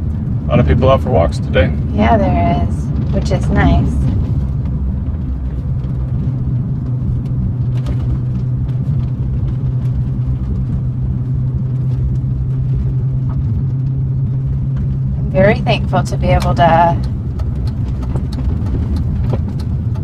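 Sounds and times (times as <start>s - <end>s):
car engine and tyres hum: 0.0s - 20.0s.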